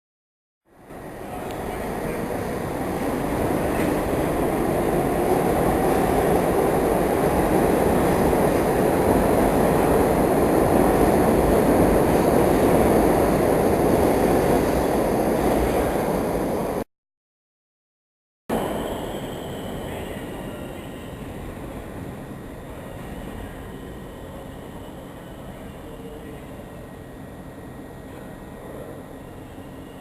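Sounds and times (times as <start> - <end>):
subway train rumbling on rails: 0.7 - 16.8, 18.5 - 30.0.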